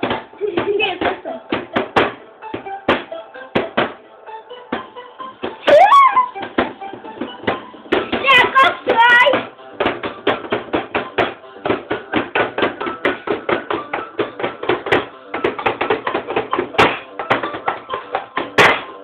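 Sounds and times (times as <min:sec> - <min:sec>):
faint music: 0:00.0 - 0:19.0.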